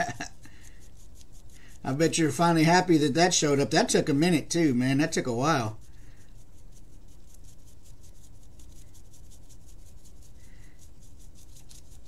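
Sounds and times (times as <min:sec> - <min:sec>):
low room hum: 0:00.0 - 0:12.0
paintbrush scratching: 0:00.0 - 0:12.0.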